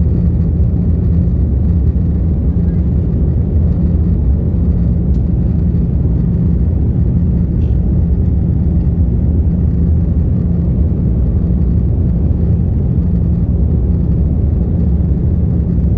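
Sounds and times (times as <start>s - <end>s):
aircraft cabin engine rumble: 0.0s - 15.9s
faint hum: 0.0s - 15.9s.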